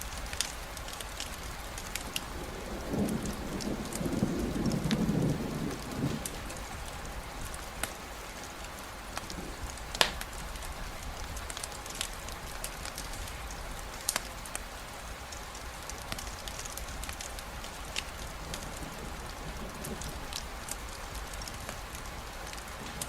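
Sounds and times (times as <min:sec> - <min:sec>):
rain drops ticking: 0:00.0 - 0:23.0
steady rainfall: 0:00.0 - 0:23.0
low thunder rumble: 0:01.4 - 0:13.9, 0:15.8 - 0:23.0.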